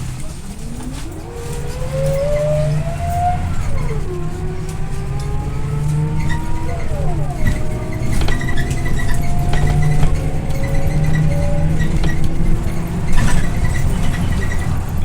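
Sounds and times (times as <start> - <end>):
bus drivetrain whine: 0.0 - 15.0
low engine drone: 0.0 - 15.0.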